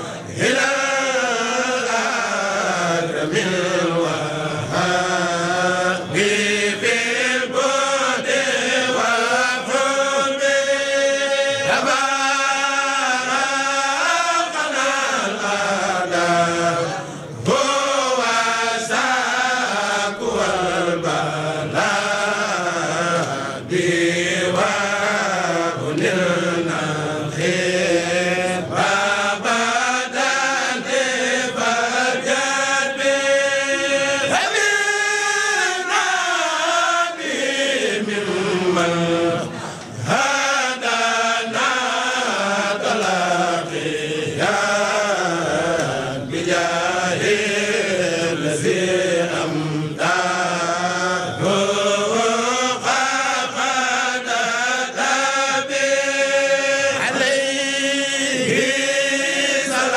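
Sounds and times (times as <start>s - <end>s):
devotional verse chanting: 0.0s - 59.9s.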